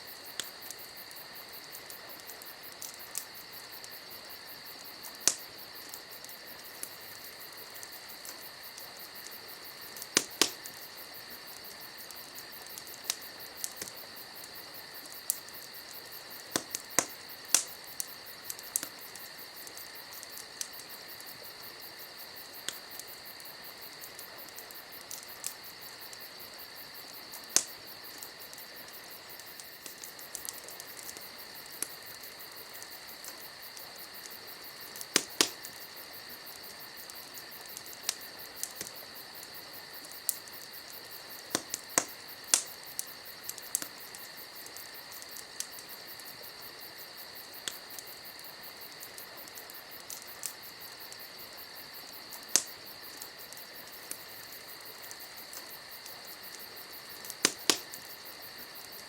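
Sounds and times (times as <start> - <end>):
campfire crackling: 0.0 - 59.0
crickets chirring: 0.0 - 59.0.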